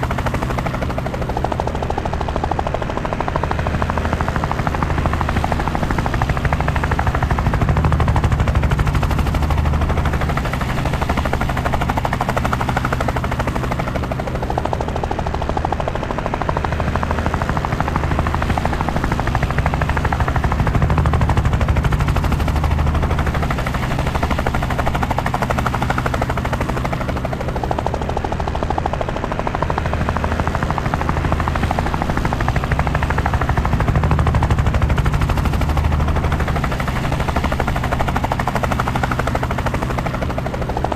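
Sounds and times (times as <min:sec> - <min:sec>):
helicopter engine drone: 0:00.0 - 0:40.9
helicopter rotor chop: 0:00.0 - 0:40.9.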